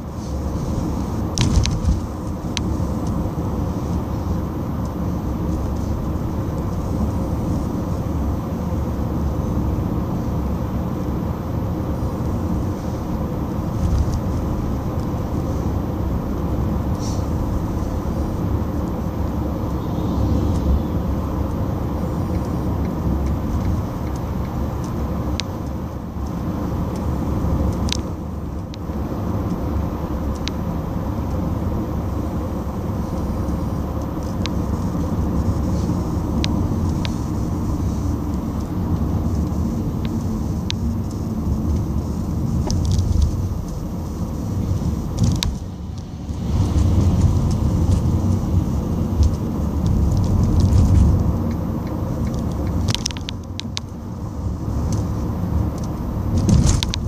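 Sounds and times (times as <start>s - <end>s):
car engine rumble: 0.0s - 57.0s.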